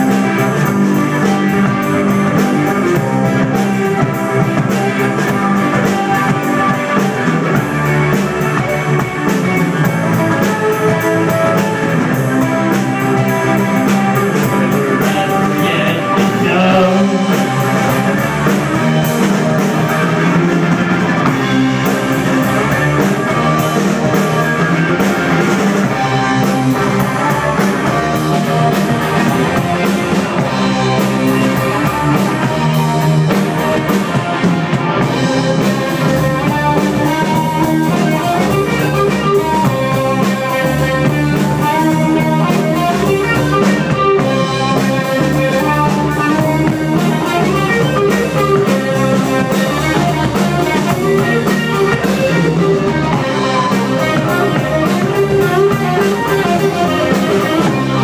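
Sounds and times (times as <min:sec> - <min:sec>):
distorted electric guitar: 0:00.0 - 0:58.0
drum kit: 0:00.0 - 0:58.0
electric bass: 0:00.0 - 0:58.0.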